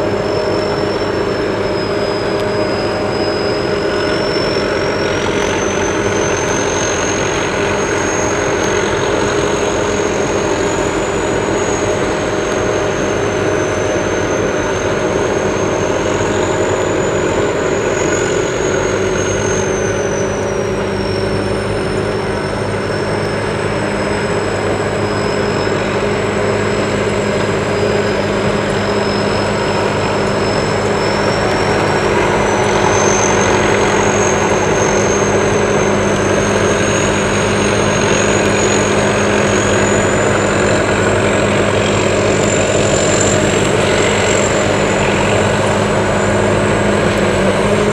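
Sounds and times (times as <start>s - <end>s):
harvester engine hum: 0.0s - 47.9s
high wavering whine: 0.0s - 47.9s.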